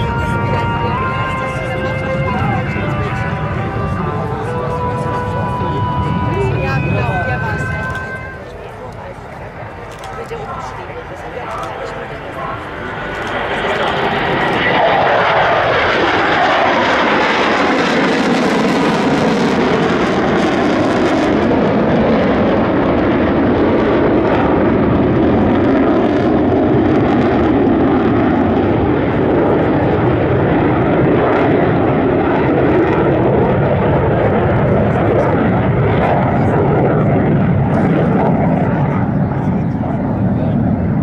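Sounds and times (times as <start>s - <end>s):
fighter jets flying by: 0.0s - 41.0s.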